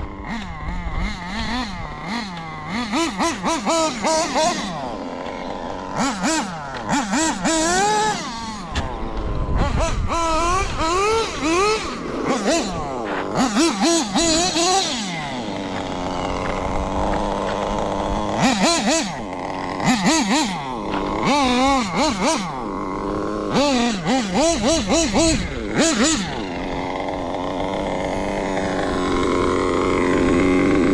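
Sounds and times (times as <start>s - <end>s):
rc car nitro engine revving: 0.0s - 30.9s.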